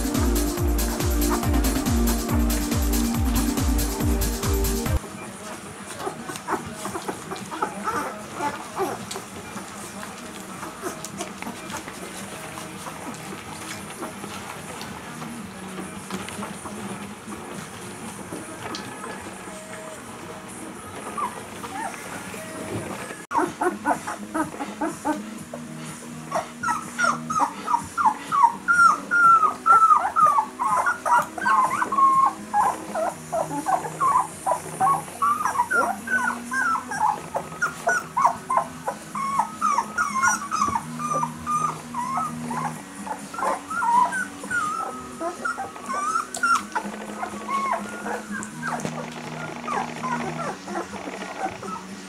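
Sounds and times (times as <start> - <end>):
puppies squeaking and whimpering: 0.0 - 5.0, 5.6 - 15.0, 16.0 - 52.0
background music with low notes: 0.0 - 52.0.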